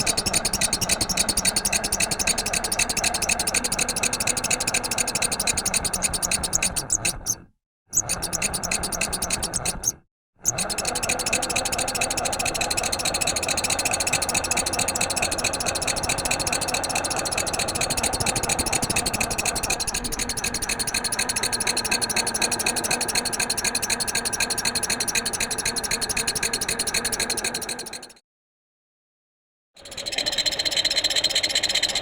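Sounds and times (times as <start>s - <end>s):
motor running with fast pulsing: 0.0s - 28.2s, 29.8s - 32.0s.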